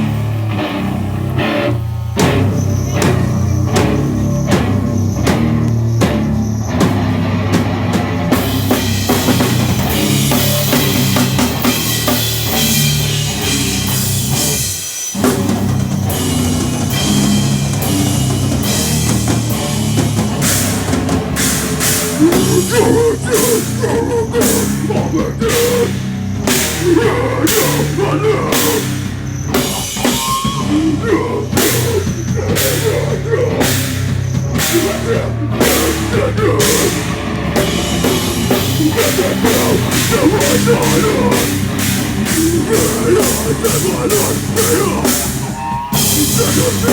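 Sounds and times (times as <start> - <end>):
live heavy rock band: 0.0 - 46.9
pounding drum kit: 0.0 - 46.9.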